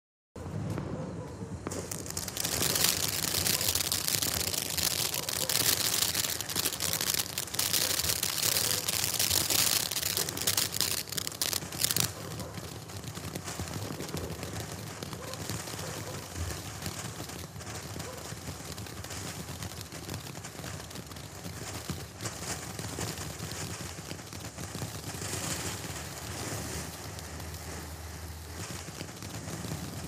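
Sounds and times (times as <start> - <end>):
firework fountain hissing and crackling: 0.6 - 30.0.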